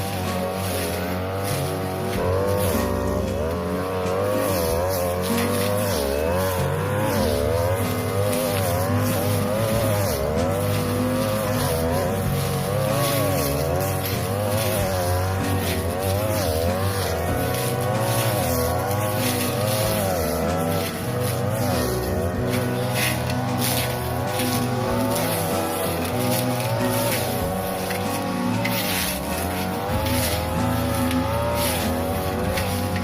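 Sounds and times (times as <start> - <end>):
brush cutter engine cutting grass: 0.0 - 33.0.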